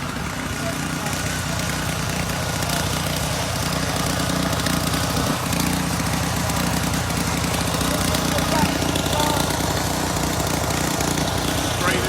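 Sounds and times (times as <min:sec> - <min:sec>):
car wash machinery drone: 0:00.0 - 0:12.0.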